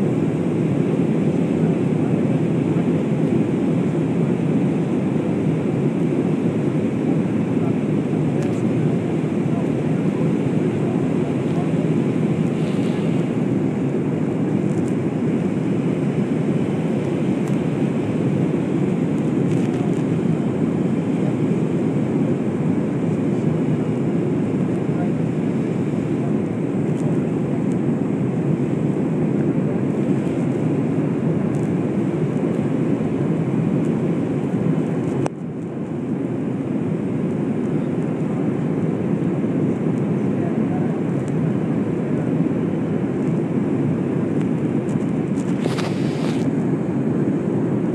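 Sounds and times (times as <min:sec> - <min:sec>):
airliner cabin roar: 0:00.0 - 0:47.9.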